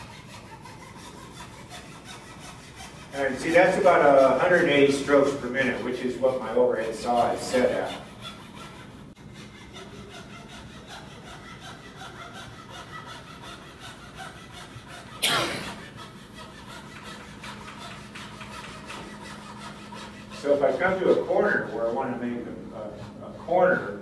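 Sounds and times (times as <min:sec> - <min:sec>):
fret saw cutting wood veneers: 0:00.0 - 0:24.0.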